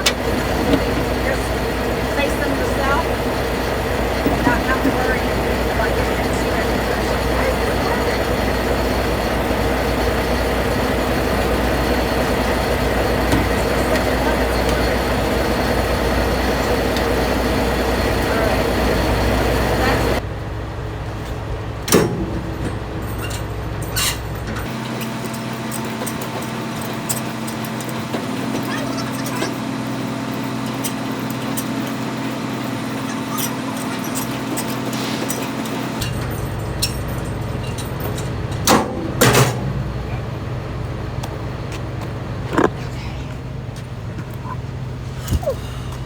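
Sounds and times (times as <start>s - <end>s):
truck engine idling: 0.0s - 46.0s.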